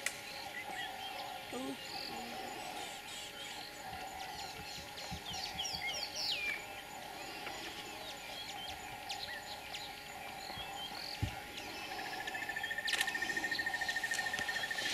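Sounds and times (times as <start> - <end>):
bird chirps: 0.0 - 14.9
insect drone: 0.0 - 14.9.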